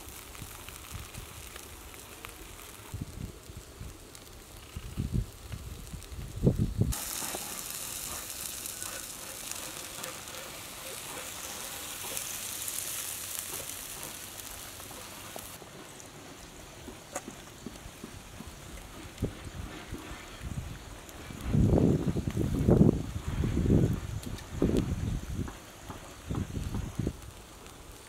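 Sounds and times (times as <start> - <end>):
fish sizzling on a grill: 0.0 - 28.0.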